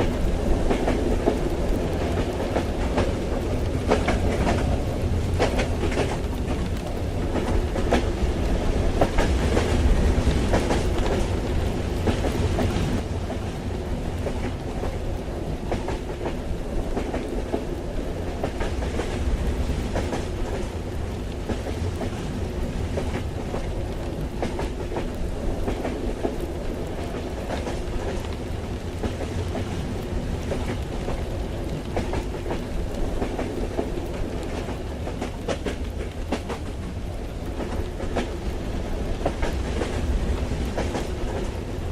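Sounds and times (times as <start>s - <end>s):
train wheels rumbling on tracks: 0.0s - 41.9s.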